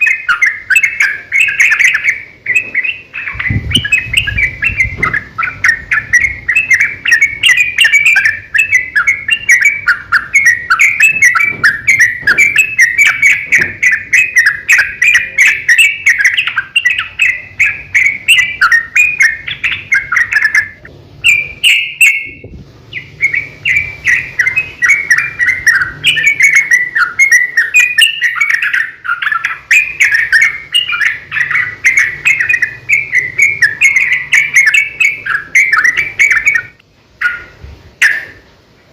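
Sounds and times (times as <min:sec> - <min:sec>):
bird singing chattering notes: 0:00.0 - 0:38.5.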